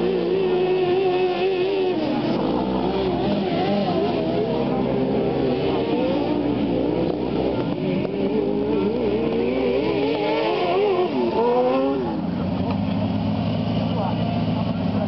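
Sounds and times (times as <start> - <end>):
lawnmower engines racing by: 0.0 - 15.0.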